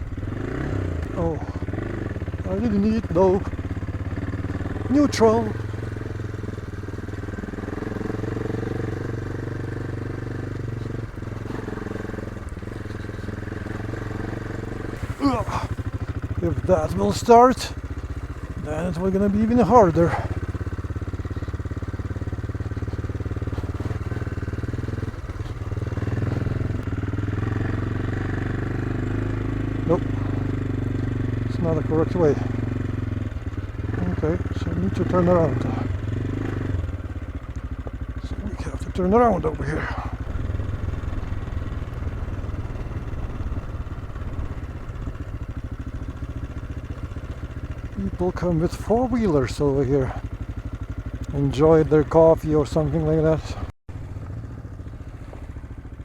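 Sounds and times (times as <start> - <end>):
single-cylinder engine running: 0.0 - 56.0.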